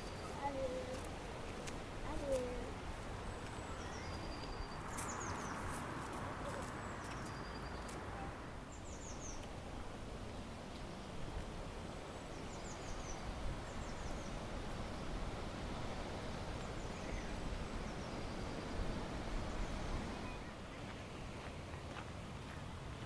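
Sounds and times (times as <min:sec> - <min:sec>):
small songbirds chirping: 0:00.0 - 0:21.5
outdoor background hiss: 0:00.0 - 0:23.0.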